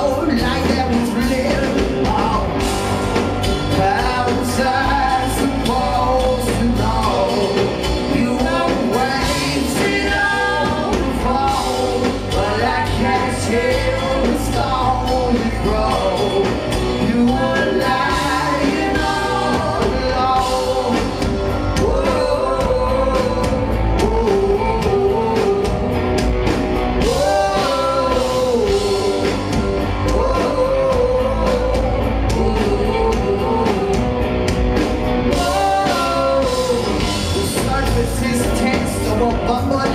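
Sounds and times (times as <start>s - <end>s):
person singing lead vocal: 0.0s - 39.9s
rock band playing: 0.0s - 39.9s.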